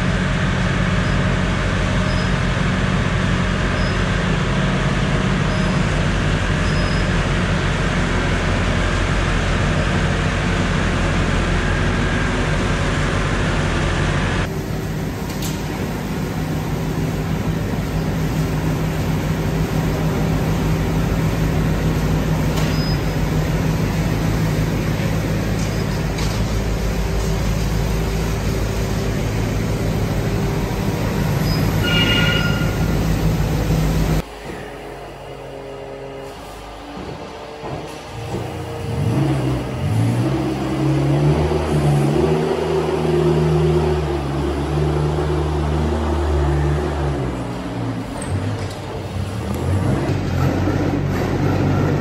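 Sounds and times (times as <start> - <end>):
tractor engine hum: 0.0 - 52.0.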